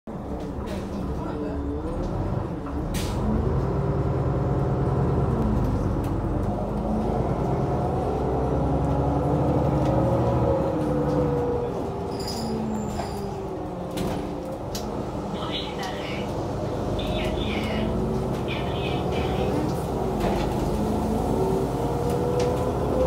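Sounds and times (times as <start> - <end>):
bus engine rumble: 0.1 - 23.0.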